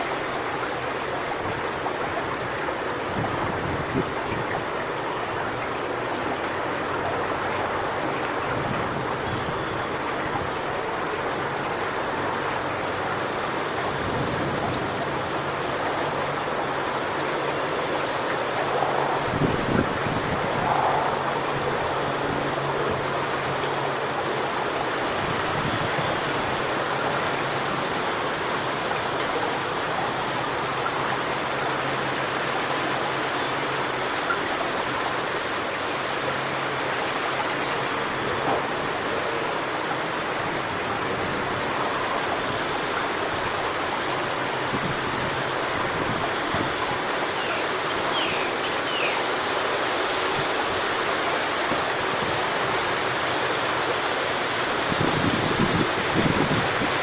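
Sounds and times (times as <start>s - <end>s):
wind rustling palm fronds: 0.0s - 57.0s.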